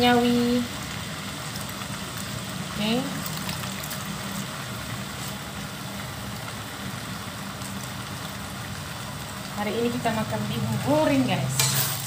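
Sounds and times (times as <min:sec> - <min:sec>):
food sizzling in wok: 0:00.0 - 0:12.0.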